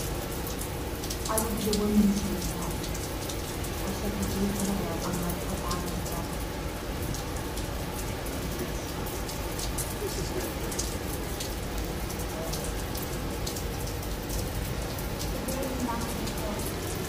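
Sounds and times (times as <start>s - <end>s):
rain on a deck: 0.0s - 17.0s.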